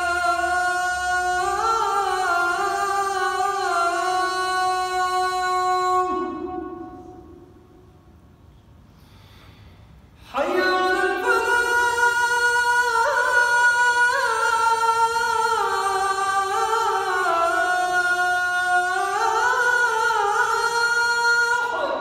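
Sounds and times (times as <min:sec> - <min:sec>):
man chanting call to prayer: 0:00.0 - 0:07.4, 0:10.3 - 0:22.0.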